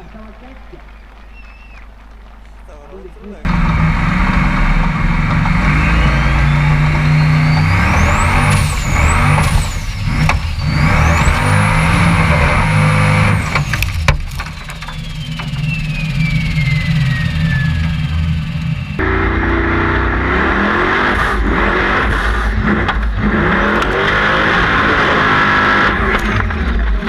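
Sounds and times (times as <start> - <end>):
buggy engine running hard: 0.0 - 27.0
high engine whine: 0.0 - 27.0.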